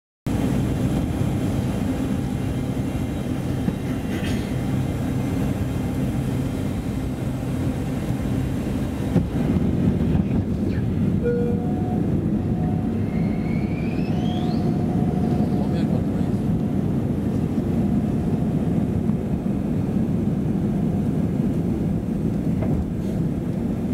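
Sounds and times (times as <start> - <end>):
airplane cabin rumble: 0.3 - 23.9.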